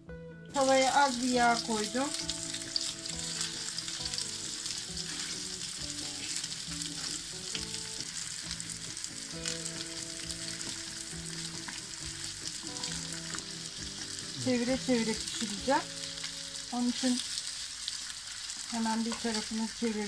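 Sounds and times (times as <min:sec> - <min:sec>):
meat patties sizzling in a pan: 0:00.5 - 0:20.0.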